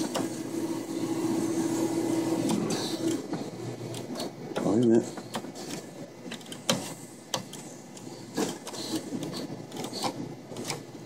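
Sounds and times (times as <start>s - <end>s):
claw machine motors running: 0.0s - 11.0s.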